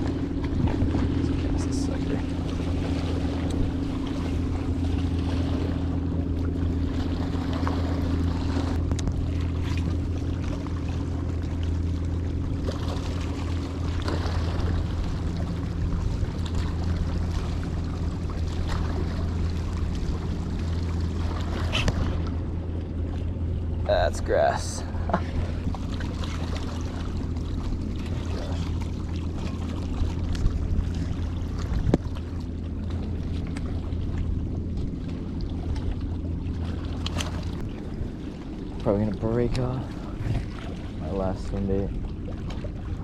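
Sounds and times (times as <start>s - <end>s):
engine droning: 0.0s - 43.0s.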